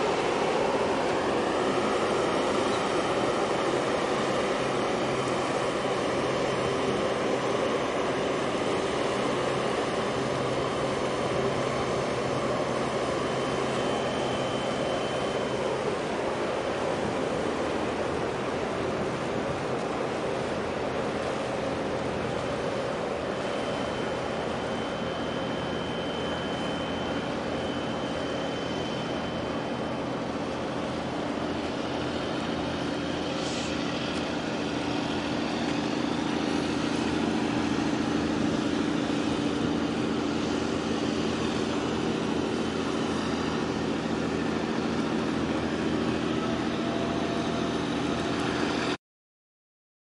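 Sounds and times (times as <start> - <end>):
ship engine drone: 0.0 - 49.0.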